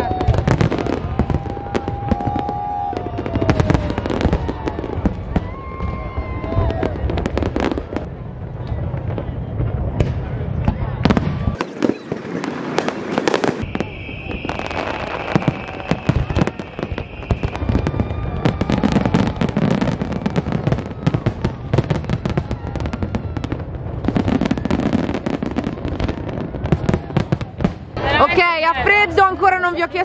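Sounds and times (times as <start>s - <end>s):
fireworks bursting and crackling: 0.0s - 30.0s.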